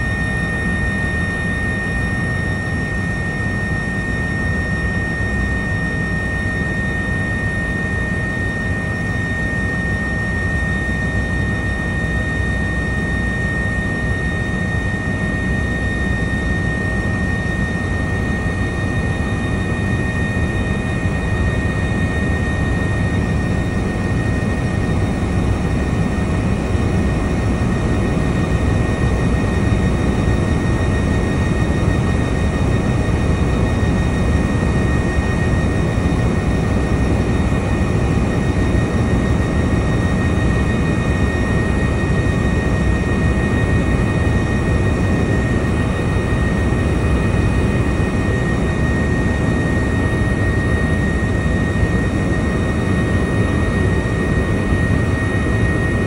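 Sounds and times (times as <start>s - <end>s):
helicopter rotor and engine drone: 0.0s - 56.0s
high steady whine: 0.0s - 56.0s.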